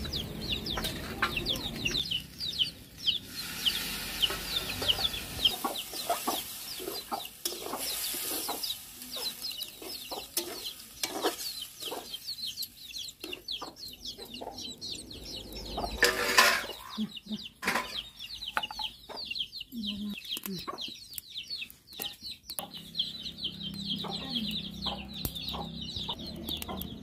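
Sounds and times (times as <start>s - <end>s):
chicks peeping: 0.0s - 27.0s.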